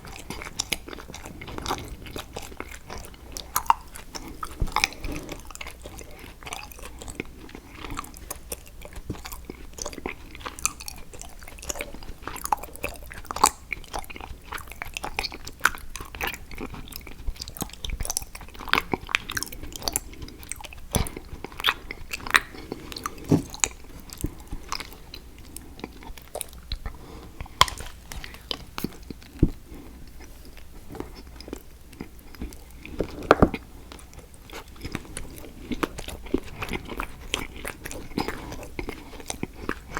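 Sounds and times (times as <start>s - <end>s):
chewing chocolate with crisp snaps: 0.0s - 39.9s.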